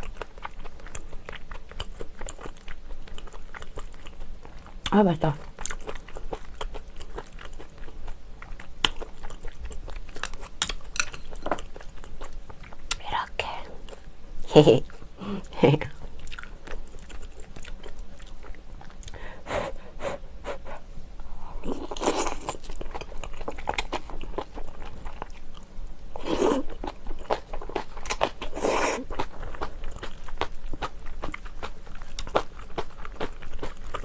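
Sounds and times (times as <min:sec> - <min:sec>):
wet crunching and chewing: 0:00.0 - 0:13.0, 0:14.8 - 0:19.2, 0:21.7 - 0:34.0.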